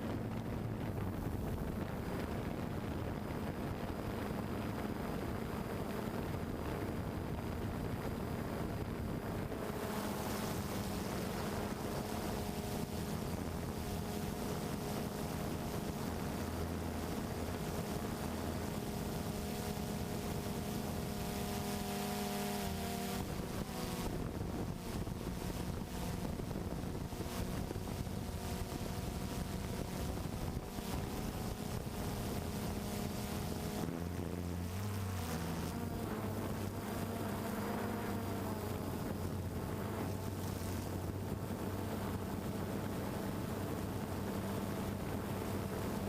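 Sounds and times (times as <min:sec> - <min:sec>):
constant rushing noise: 0:00.0 - 0:46.0
motor running steadily: 0:00.0 - 0:46.0
wind noise on microphone: 0:00.0 - 0:46.0.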